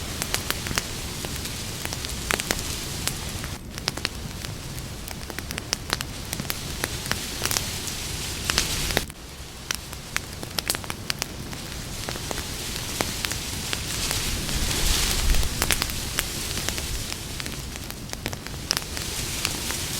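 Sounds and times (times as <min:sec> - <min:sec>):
campfire wood crackling and popping: 0:00.0 - 0:19.9
hiss of flames: 0:00.0 - 0:19.9.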